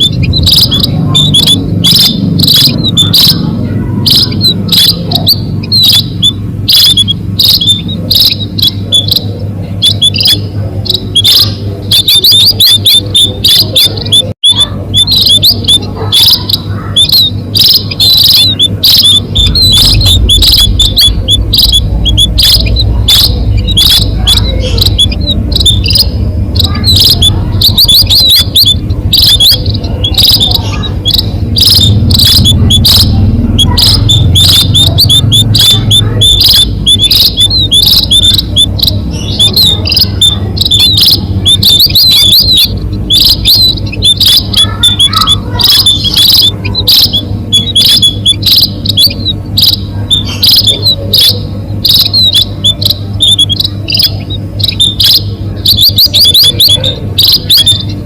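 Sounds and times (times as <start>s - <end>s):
munias chirping: 0.0s - 58.0s
steady low hum: 0.0s - 58.0s.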